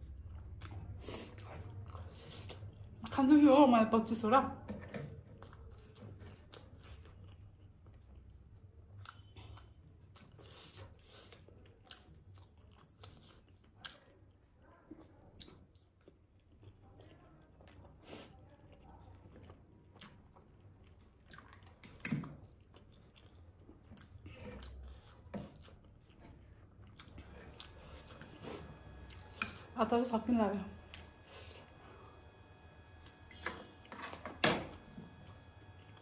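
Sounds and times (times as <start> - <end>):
chewing dumplings: 0.0 - 3.2, 5.2 - 33.9.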